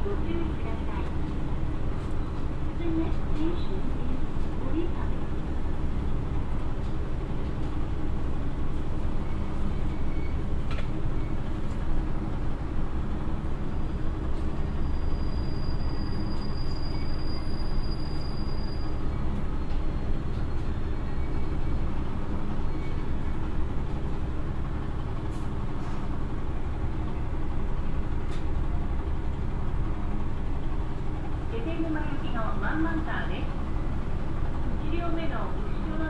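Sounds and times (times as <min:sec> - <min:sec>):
diesel engine drone: 0:00.0 - 0:36.0.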